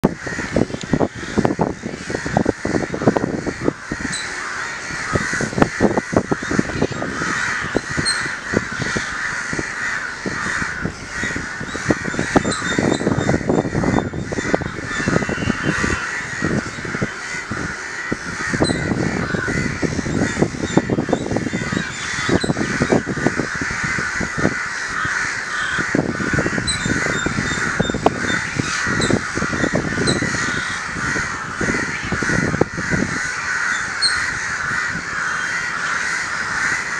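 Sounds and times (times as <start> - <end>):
crows cawing: 0.1 - 36.9.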